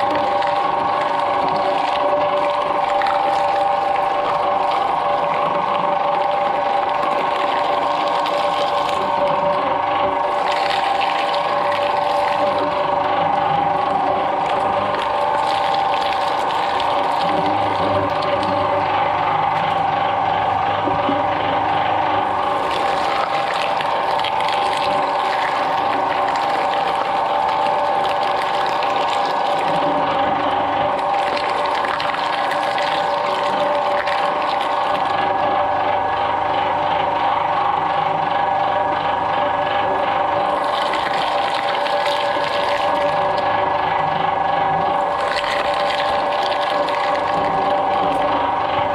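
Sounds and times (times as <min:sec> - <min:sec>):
blades crunching fruit: 0:00.0 - 0:36.7, 0:39.2 - 0:48.9
shredder motor whine and hum: 0:00.0 - 0:48.9.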